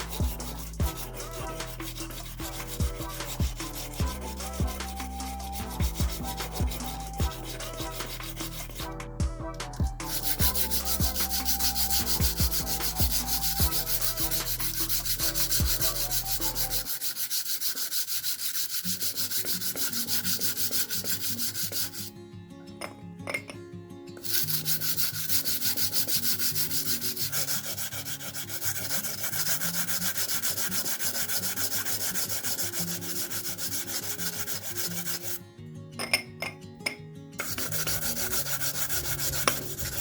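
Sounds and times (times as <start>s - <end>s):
abrasive rubbing: 0.0s - 22.1s, 24.2s - 35.4s, 37.4s - 40.0s.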